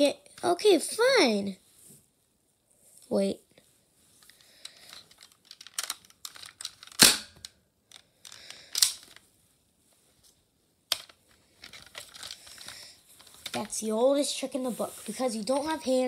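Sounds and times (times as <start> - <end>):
rustling and clicking from toys: 3.0 - 16.0.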